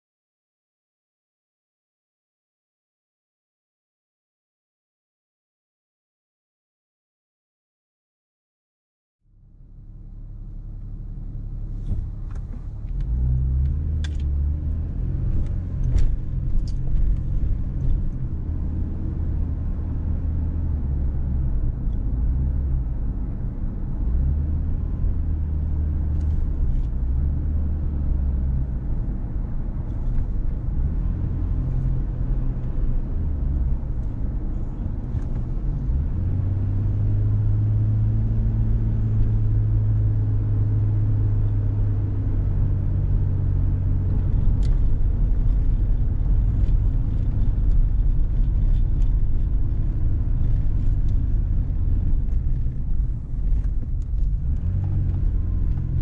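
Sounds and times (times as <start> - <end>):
car engine and road rumble: 9.2 - 56.0.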